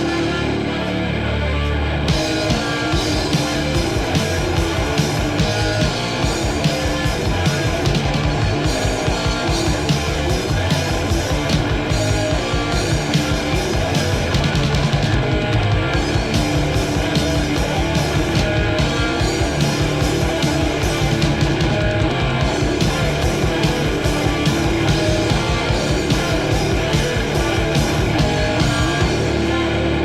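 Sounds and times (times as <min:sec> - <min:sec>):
bass guitar: 0:00.0 - 0:30.0
distorted electric guitar: 0:00.0 - 0:30.0
fast drumming: 0:02.1 - 0:30.0.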